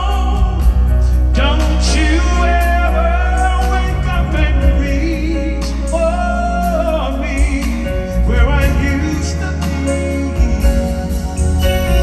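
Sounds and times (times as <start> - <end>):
live band playing ballad: 0.0 - 12.0
man singing: 0.0 - 12.0.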